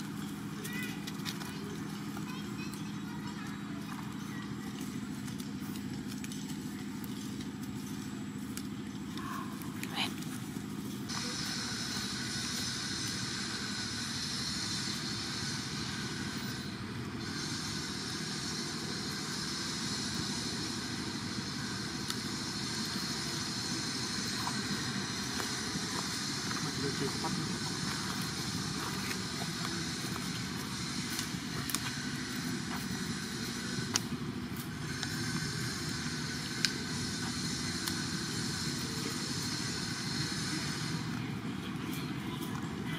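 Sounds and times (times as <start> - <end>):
outdoor background noise: 0.0 - 42.9.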